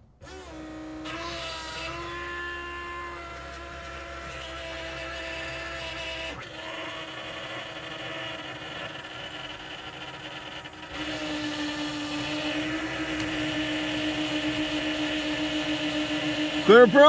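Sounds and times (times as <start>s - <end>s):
electric fuel pumps whining: 0.0s - 17.0s.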